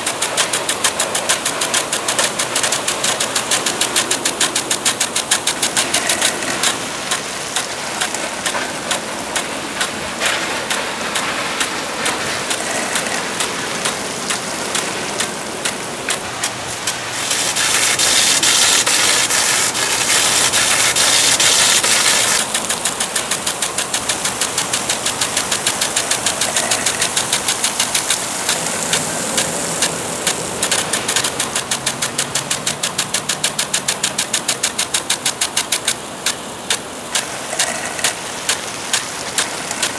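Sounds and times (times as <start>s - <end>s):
sprinkler spraying water: 0.0s - 39.9s
sprinkler ticking: 0.0s - 39.9s.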